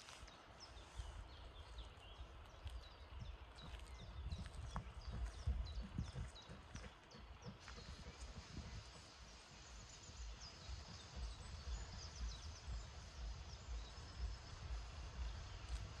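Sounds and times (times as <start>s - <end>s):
small birds chirping: 0.0s - 16.0s
faint low rumbling pulses: 0.7s - 16.0s.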